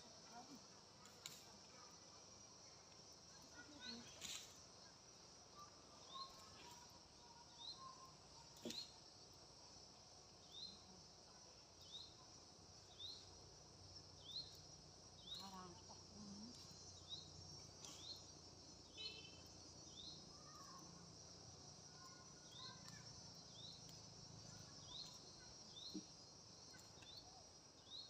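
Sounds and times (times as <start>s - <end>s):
high insect buzz: 0.0s - 28.0s.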